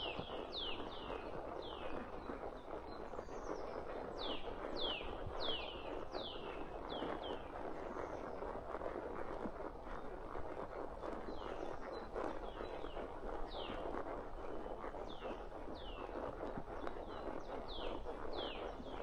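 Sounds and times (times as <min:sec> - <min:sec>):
horse hooves walking: 0:00.0 - 0:19.0.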